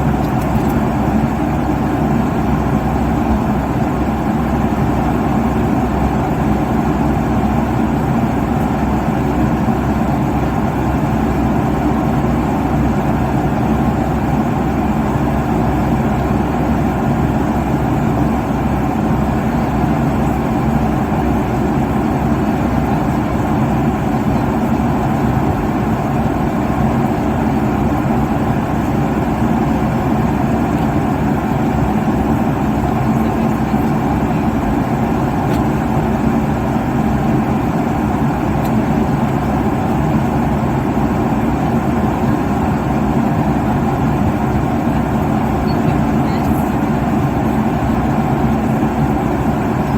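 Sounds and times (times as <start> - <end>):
faint constant hum: 0.0 - 49.9
jet cabin engine and airflow rush: 0.0 - 49.9.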